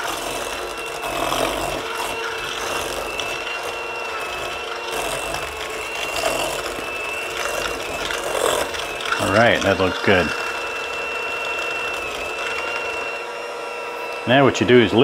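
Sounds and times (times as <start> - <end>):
electric hand mixer whining: 0.0 - 15.0.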